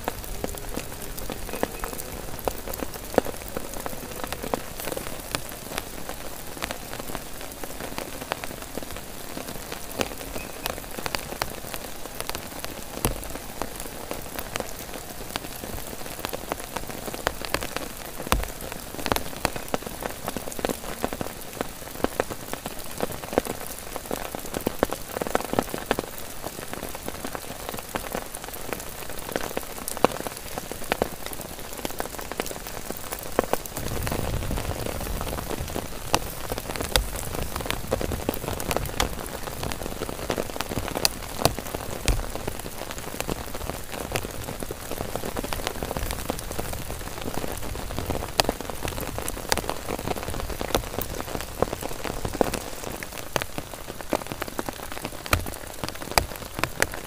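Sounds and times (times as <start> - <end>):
heavy rain on tent: 0.0 - 57.0
raindrop ticks: 0.0 - 57.0.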